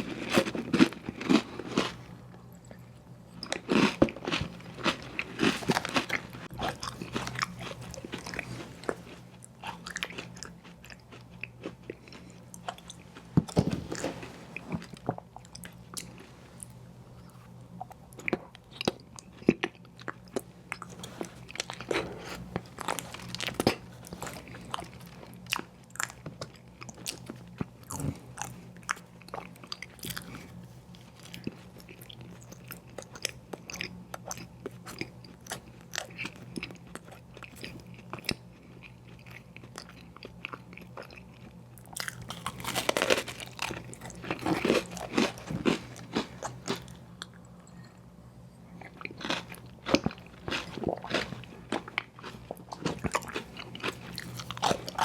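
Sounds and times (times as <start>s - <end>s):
crunchy chewing of ice cream sandwich: 0.0s - 2.8s, 3.4s - 48.0s, 48.6s - 55.0s
faint low hum: 0.0s - 55.0s.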